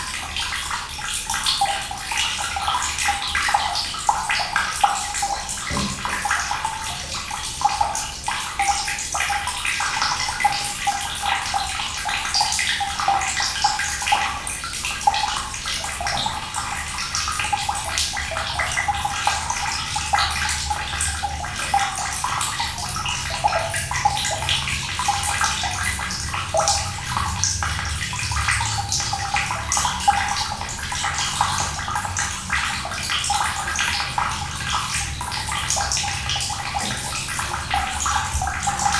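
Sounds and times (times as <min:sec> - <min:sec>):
water running with splashes: 0:00.0 - 0:38.9.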